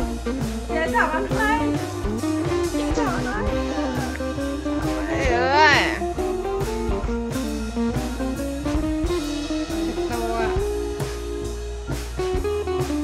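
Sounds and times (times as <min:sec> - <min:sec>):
blues guitar music with drums: 0:00.0 - 0:13.0.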